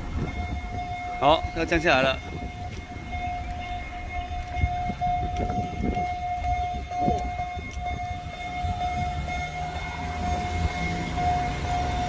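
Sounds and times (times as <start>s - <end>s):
level crossing alarm tone: 0.0s - 12.0s.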